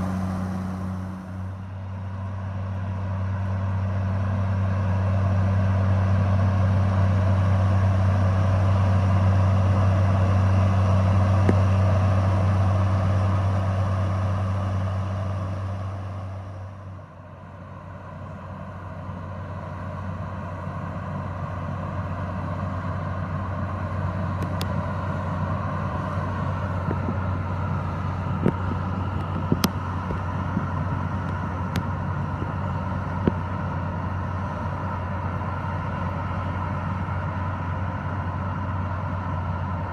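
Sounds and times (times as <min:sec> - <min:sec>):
orchard sprayer running: 0:00.0 - 0:39.9.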